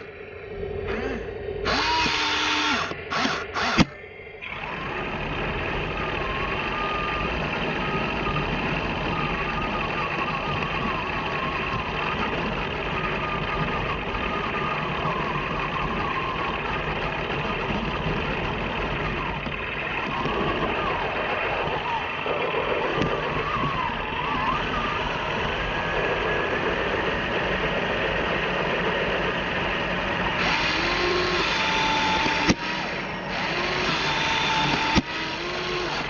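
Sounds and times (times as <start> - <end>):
faint wavering whine: 0.0 - 36.0
toy tank motors and gears running: 0.0 - 36.0.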